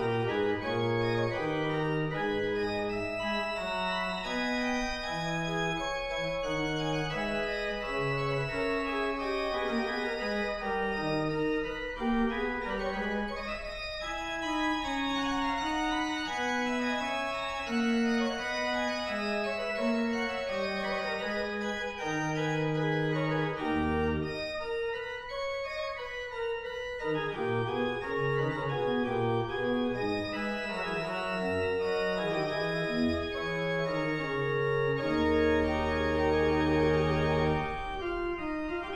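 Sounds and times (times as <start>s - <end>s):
organ playing held chords: 0.0s - 38.9s.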